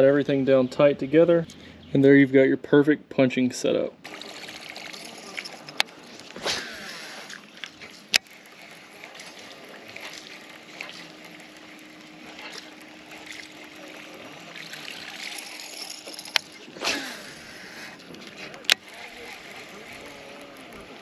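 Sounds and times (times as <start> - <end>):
faint water sounds: 3.7 - 21.0
reel winding: 4.0 - 21.0.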